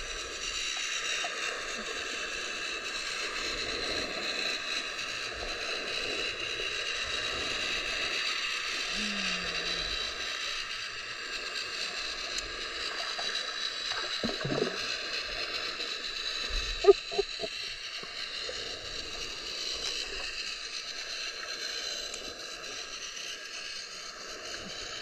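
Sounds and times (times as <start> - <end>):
underwater moving water hiss: 0.0 - 25.0.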